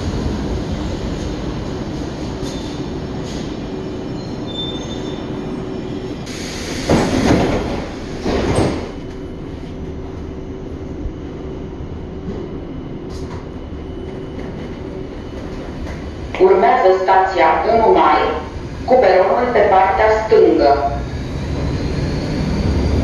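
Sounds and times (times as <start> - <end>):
train electrical hum: 0.0 - 23.0.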